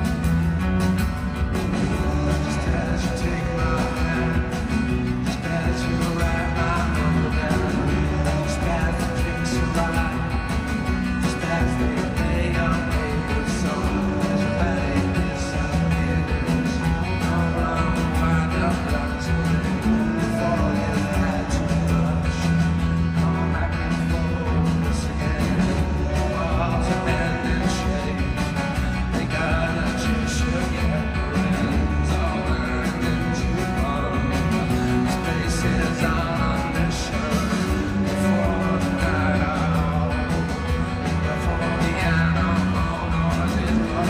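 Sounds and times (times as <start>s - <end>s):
bass: 0.0s - 44.0s
drums: 0.0s - 44.0s
strummed guitars: 0.0s - 44.0s
person singing: 1.4s - 44.0s.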